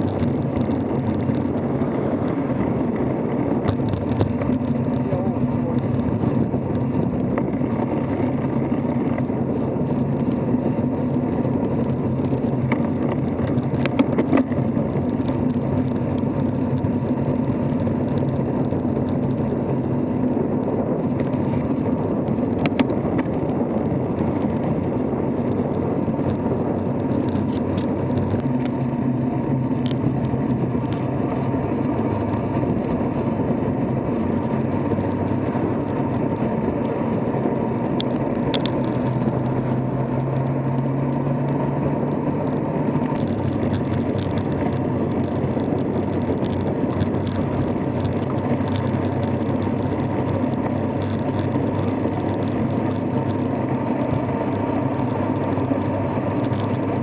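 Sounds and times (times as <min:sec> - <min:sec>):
bike riding noise: 0:00.0 - 0:57.0.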